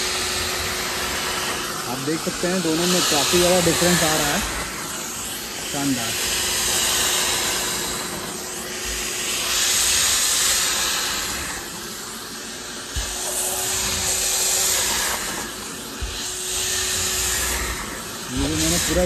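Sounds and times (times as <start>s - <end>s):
vacuum cleaner suction hissing: 0.0s - 19.0s.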